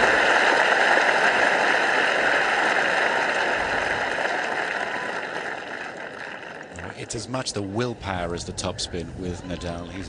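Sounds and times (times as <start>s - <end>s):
tennis crowd applauding: 0.0s - 10.0s.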